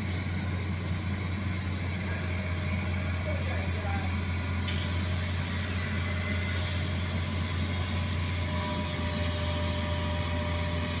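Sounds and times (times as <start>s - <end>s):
heavy truck engine drone: 0.0s - 11.0s.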